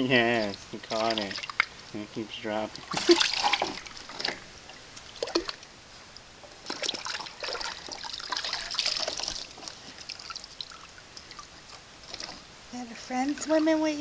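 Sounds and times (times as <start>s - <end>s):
water splashing in a plastic tub: 0.0s - 5.7s, 6.4s - 12.5s.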